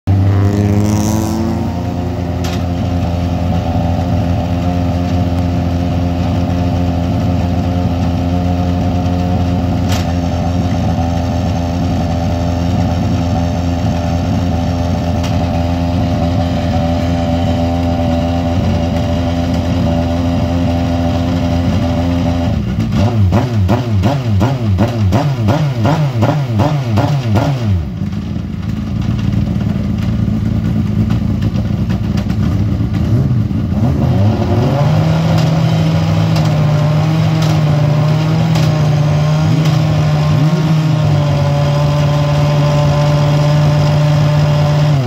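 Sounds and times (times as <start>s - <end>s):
racing car engine idling and revving: 0.0s - 45.0s.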